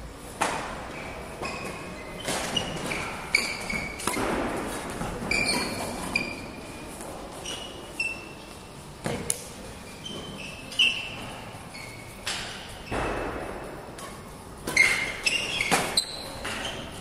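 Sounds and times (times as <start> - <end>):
shoes squeaking on court floor: 0.4 - 17.0.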